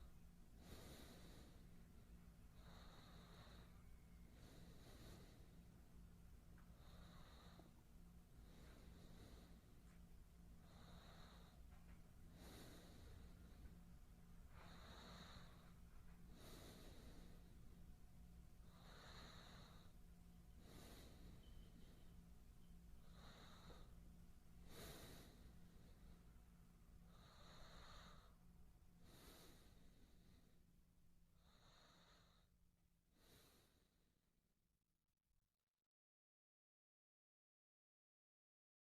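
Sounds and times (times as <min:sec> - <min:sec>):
man breathing slowly: 0:00.0 - 0:34.1.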